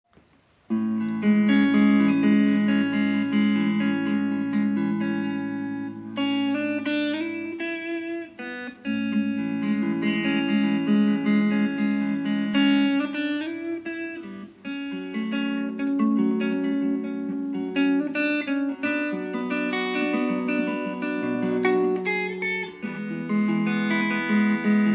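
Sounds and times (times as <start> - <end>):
clean electric guitar arpeggios: 0.7 - 24.9.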